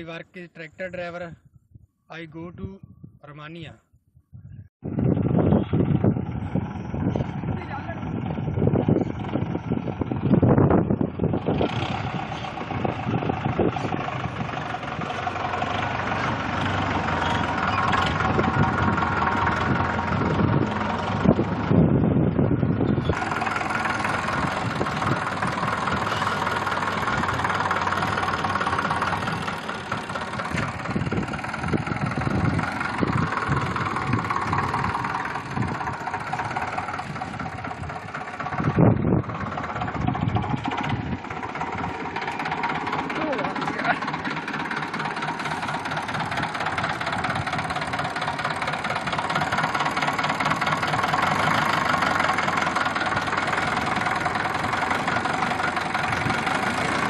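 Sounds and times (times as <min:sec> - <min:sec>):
tractor diesel engine running: 0:04.8 - 0:57.0.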